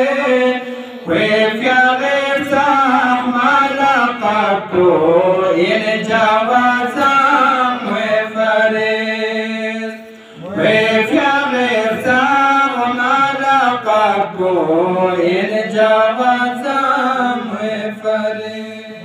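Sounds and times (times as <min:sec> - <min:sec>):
man chanting unaccompanied: 0:00.0 - 0:19.0.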